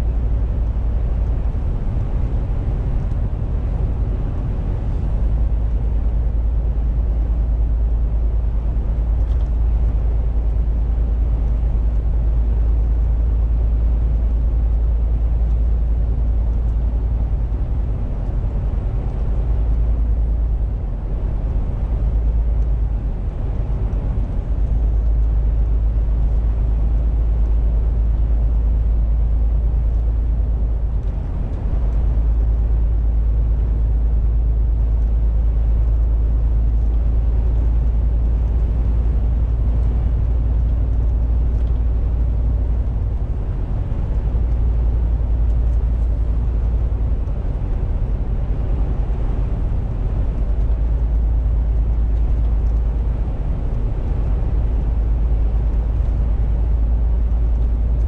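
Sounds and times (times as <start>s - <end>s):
diesel truck engine rumble: 0.0s - 58.0s
road noise: 0.0s - 58.0s.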